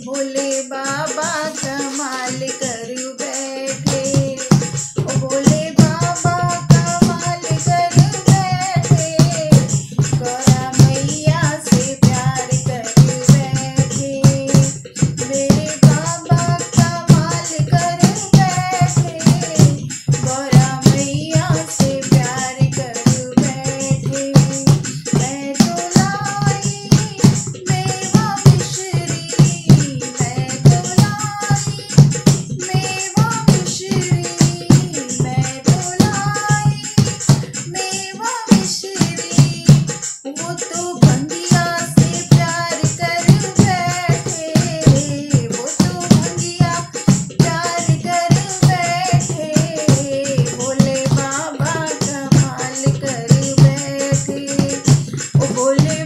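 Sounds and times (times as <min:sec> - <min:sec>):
woman singing devotional song: 0:00.0 - 0:56.0
sharp percussion strikes: 0:00.1 - 0:56.0.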